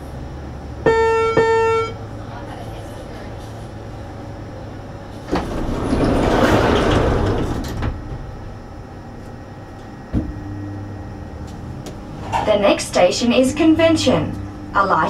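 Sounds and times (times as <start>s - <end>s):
monorail train hum: 0.0s - 15.0s.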